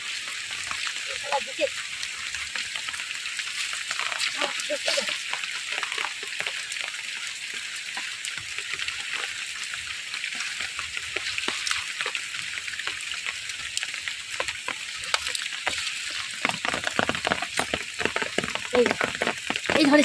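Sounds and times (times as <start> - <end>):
rain hissing: 0.0 - 20.0
raindrops clicking and pattering: 0.0 - 20.0.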